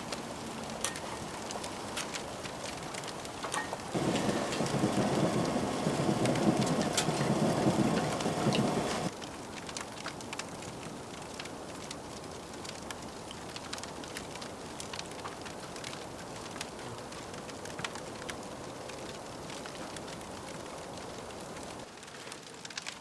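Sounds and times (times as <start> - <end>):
wood fire crackling in stove: 0.0 - 23.0.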